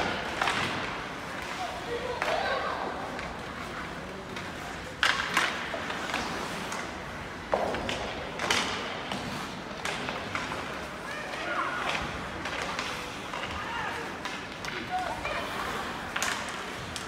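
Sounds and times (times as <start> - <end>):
hockey sticks and puck knocking: 0.0 - 2.5, 4.3 - 17.0
skates scraping ice: 0.0 - 17.0.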